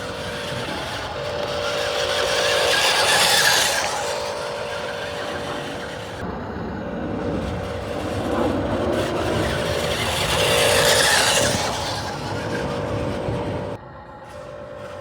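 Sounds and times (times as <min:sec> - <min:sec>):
scraping rasping sound: 0:00.0 - 0:06.3, 0:07.2 - 0:15.0
small electric motor whining: 0:00.0 - 0:15.0.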